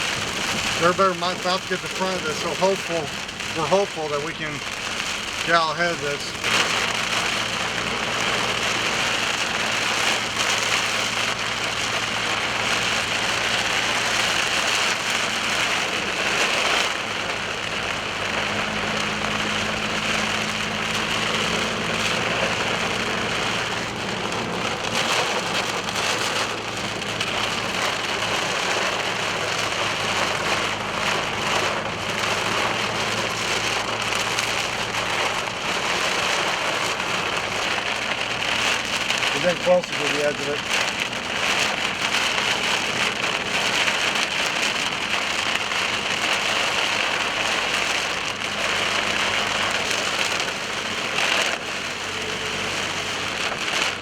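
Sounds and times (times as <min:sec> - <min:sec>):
engine and road drone: 0:00.0 - 0:54.0
rain on car roof: 0:00.0 - 0:54.0.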